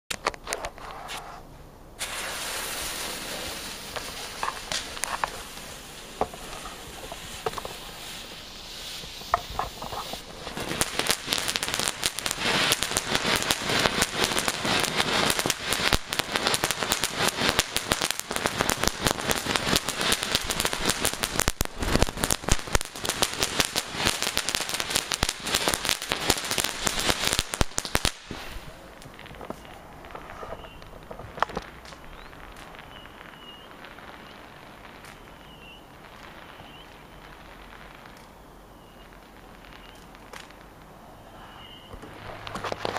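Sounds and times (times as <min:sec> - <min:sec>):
firework fountain crackling: 0:01.9 - 0:42.9
firework pops: 0:02.0 - 0:41.0, 0:41.6 - 0:42.9.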